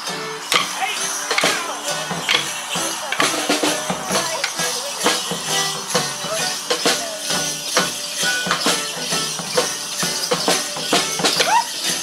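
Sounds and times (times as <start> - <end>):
drums beating steadily: 0.0 - 12.0
held melody notes: 0.0 - 12.0
jingling bells: 0.0 - 12.0.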